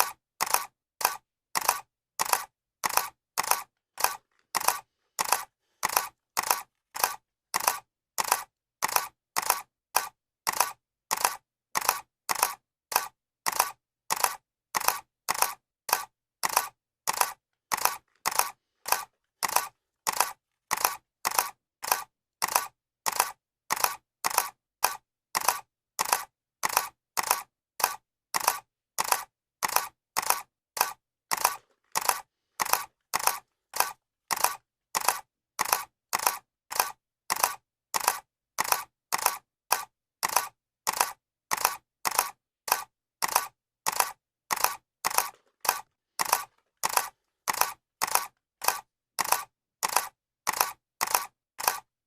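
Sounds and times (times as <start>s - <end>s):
camera shutter clicking: 0.0s - 51.9s.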